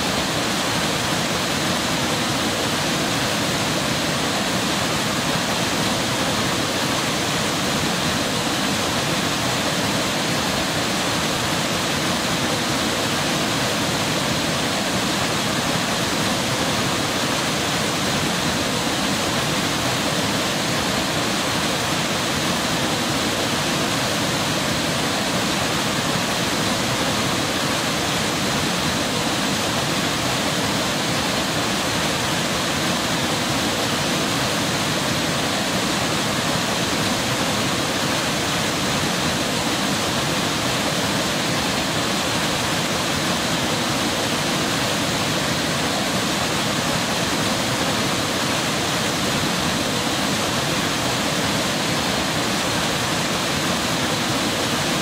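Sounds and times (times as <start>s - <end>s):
white water rushing: 0.0s - 55.0s.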